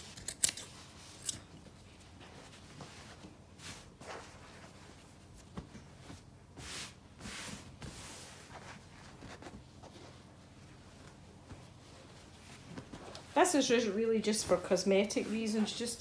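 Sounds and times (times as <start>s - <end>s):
heavy fabric rustling: 0.7s - 16.0s.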